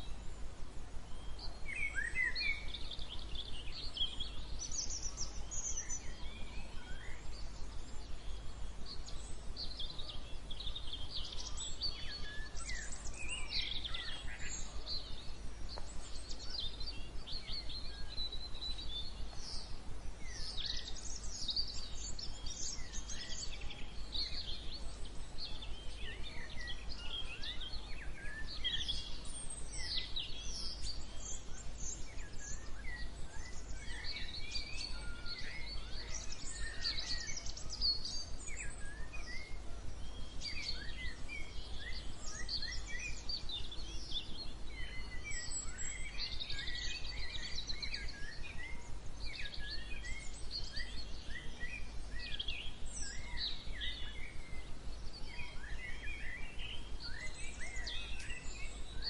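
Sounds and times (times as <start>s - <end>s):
chorus of small birds singing: 0.0s - 59.0s.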